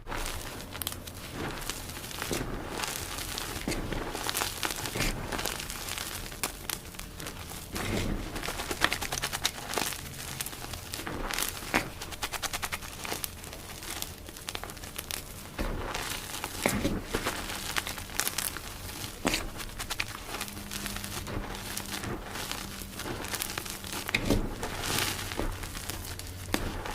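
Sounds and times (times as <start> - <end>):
chalk being crushed: 0.0 - 26.9.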